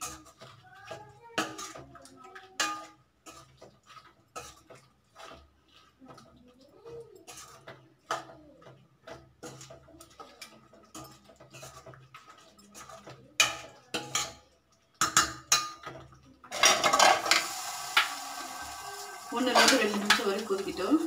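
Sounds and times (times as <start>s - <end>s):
spoon scraping metal pot: 0.0s - 14.4s, 15.0s - 21.0s.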